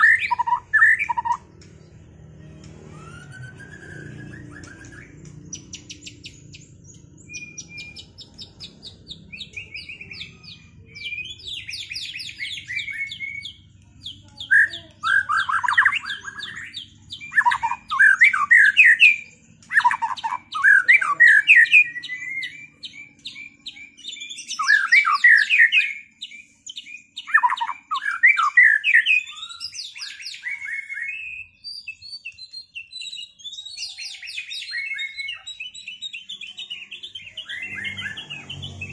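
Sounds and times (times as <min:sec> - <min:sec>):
loud whistled bird phrases: 0:00.0 - 0:01.4, 0:02.7 - 0:13.6, 0:14.3 - 0:38.9
birds singing trills: 0:00.0 - 0:38.9.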